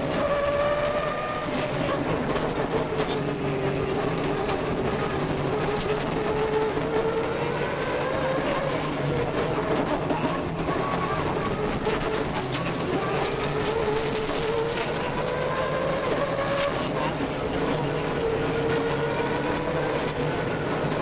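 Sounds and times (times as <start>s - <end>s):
rally car engine under load: 0.0s - 21.0s.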